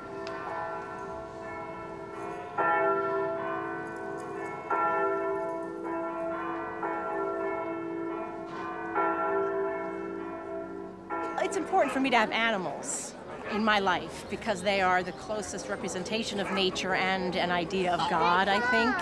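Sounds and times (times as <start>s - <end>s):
church bell ringing: 0.0s - 19.0s.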